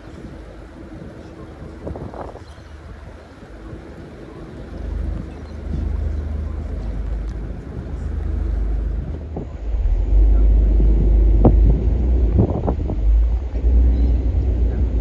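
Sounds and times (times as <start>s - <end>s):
ferry engines rumbling: 0.0s - 15.0s
wind buffeting microphone: 0.0s - 15.0s.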